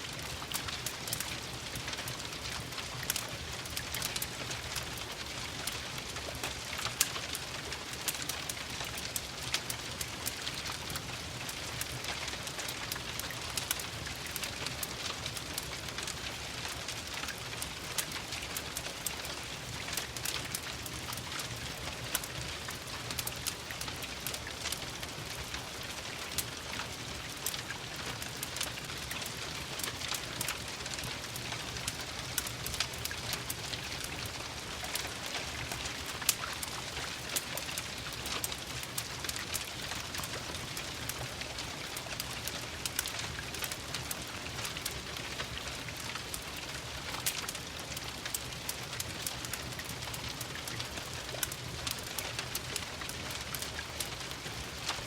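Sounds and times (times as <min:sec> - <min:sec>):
rain pattering: 0:00.0 - 0:55.0
fireplace crackling: 0:00.1 - 0:55.0.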